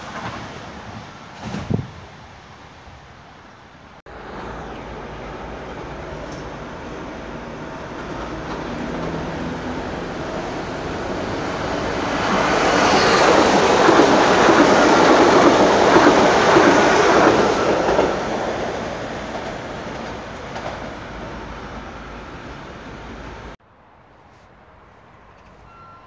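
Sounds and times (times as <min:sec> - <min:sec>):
train wheels rolling on rails: 0:00.0 - 0:02.4, 0:04.1 - 0:23.6.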